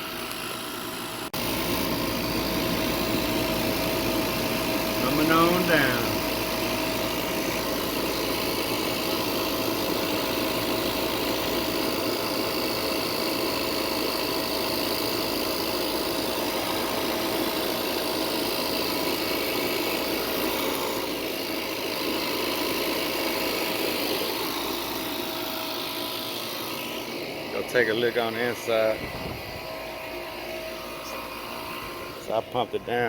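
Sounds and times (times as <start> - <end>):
machine humming: 0.0 - 33.0.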